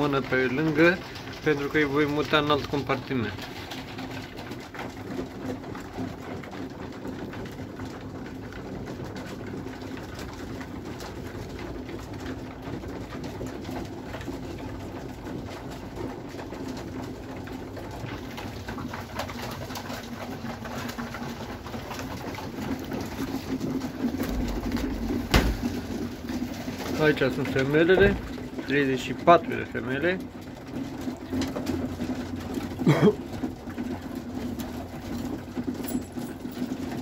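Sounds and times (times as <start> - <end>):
pigeons pecking floor: 0.0 - 37.0.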